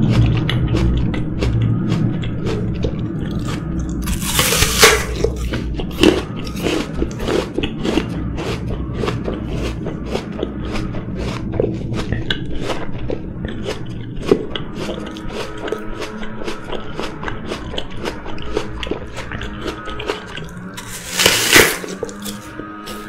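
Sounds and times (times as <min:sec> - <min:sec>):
apple crunching while chewed: 0:00.0 - 0:23.0
crunching bite into apple: 0:00.0 - 0:23.0.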